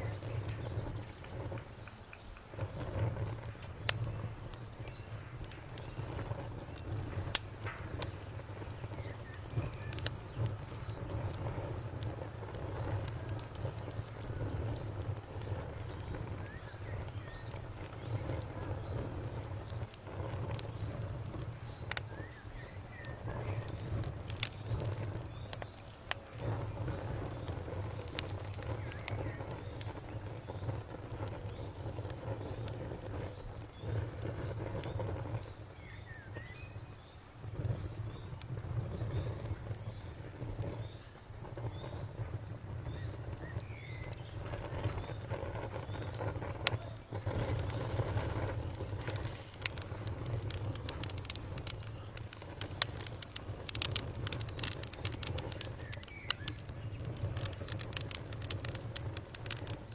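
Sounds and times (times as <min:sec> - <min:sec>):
cricket chirping: 0:00.0 - 0:59.9
wood fire crackling and popping: 0:00.0 - 0:59.9.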